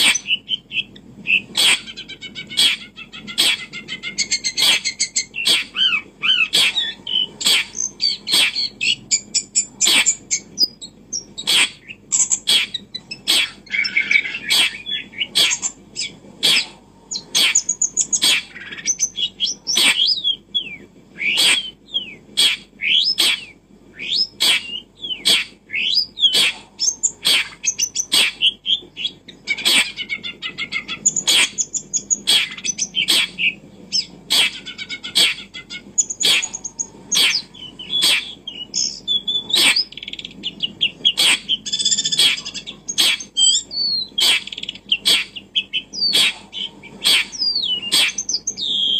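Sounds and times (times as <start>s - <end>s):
bird chirping and twittering: 0.0s - 48.9s.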